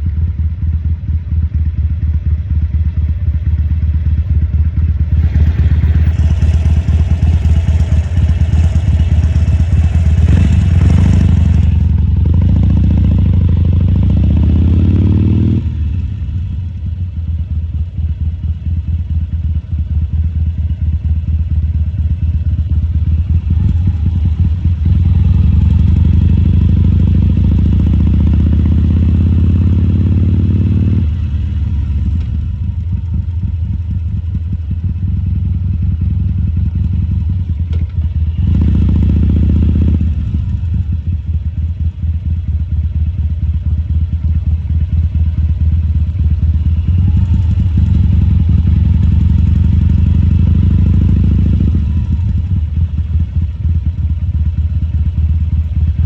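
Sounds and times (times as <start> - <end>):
motorcycle engine revving: 1.4 - 17.8, 20.5 - 56.0.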